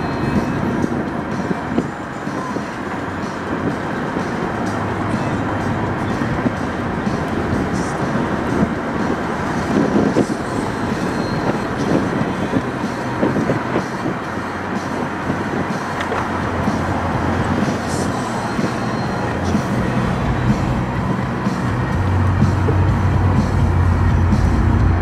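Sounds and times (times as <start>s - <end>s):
car road and engine rumble: 0.0s - 25.0s
tyre and drivetrain noise: 0.0s - 25.0s.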